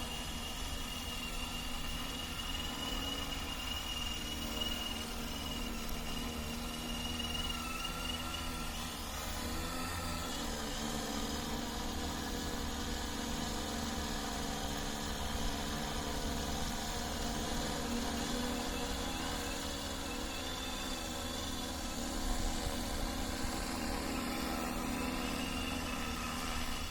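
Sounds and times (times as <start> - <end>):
drone rotors humming: 0.0 - 26.9.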